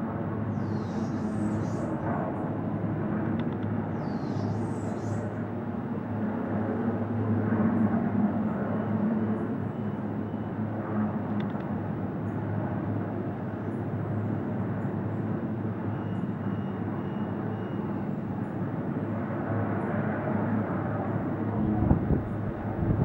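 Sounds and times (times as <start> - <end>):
helicopter engine and rotor drone: 0.0 - 23.0.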